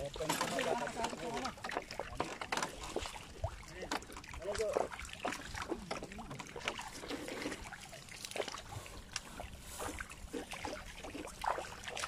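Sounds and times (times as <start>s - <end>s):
fish splashing at surface: 0.0s - 12.0s
water trickling: 0.0s - 12.0s.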